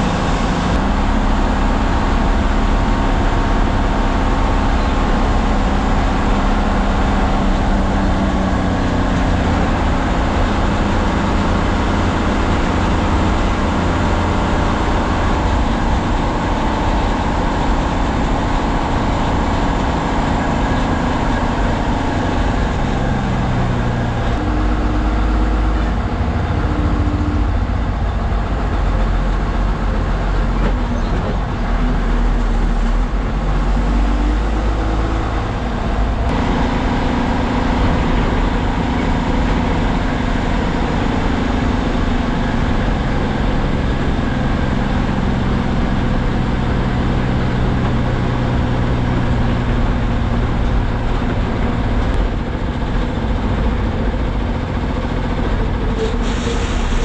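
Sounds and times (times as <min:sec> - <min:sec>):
bus diesel engine: 0:00.0 - 0:57.0
road noise: 0:00.0 - 0:57.0.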